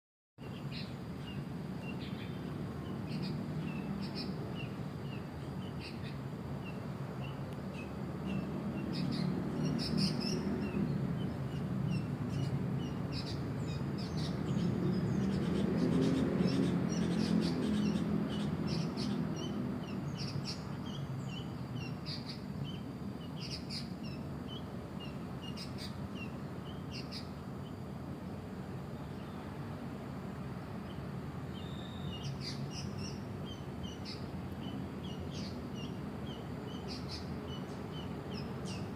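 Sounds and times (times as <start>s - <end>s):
birds chirping: 0.4s - 38.9s.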